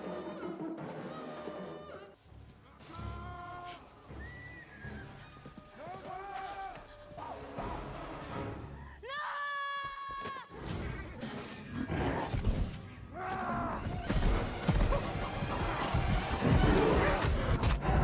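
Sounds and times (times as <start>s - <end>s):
film music: 0.0s - 9.2s, 10.5s - 18.0s.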